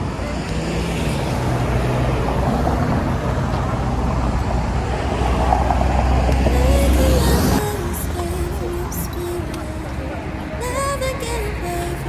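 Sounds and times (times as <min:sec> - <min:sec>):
vehicle engine low rumble: 0:00.0 - 0:10.6.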